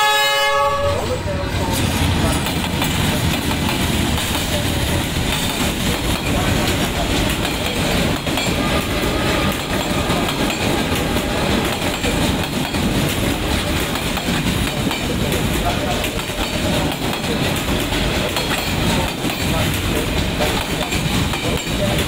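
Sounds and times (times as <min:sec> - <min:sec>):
passenger train rumbling past: 0:00.0 - 0:22.0
wheels clacking over rail joints: 0:01.8 - 0:22.0.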